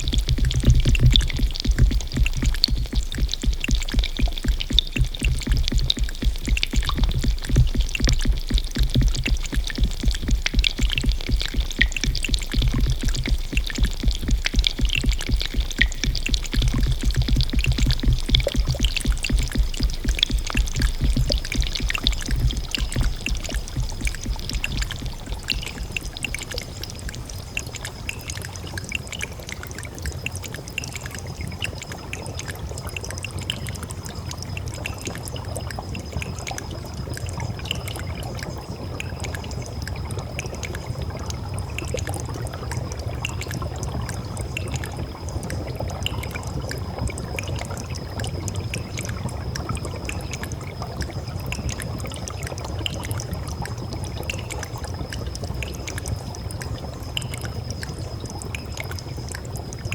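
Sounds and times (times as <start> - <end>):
water trickling and pouring: 0.0 - 59.9.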